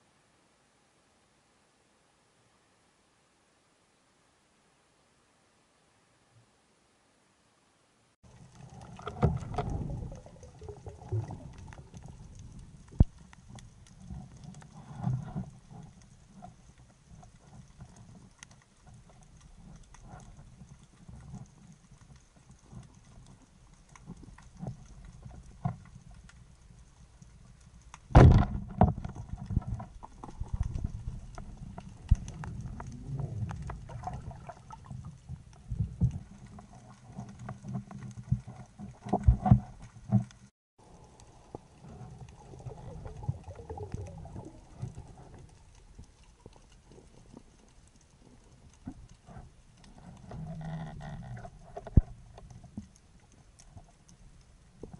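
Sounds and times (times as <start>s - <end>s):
underwater rumble: 8.3s - 54.9s
underwater clicks and knocks: 8.4s - 26.5s, 27.2s - 40.5s, 41.4s - 54.2s.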